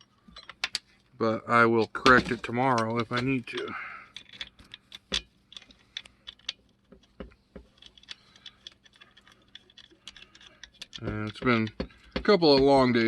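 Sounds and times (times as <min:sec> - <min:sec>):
clicks and taps of parts: 0:00.3 - 0:01.1, 0:02.0 - 0:13.0.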